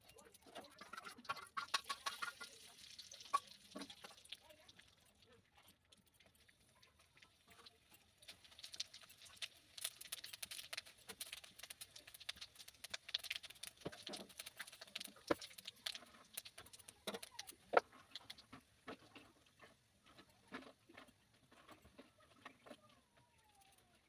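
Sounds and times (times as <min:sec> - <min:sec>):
spices crackling in hot oil: 0:00.0 - 0:24.0.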